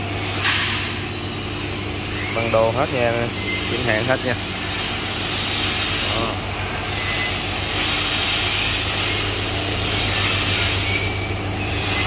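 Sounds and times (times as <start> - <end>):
mechanical drone with rushing hiss: 0.0 - 12.0.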